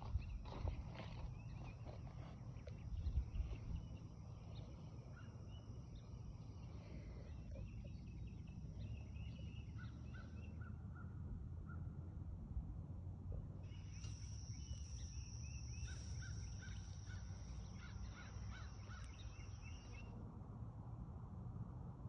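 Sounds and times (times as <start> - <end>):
wild birds chirping: 0.0 - 11.8, 13.6 - 20.1.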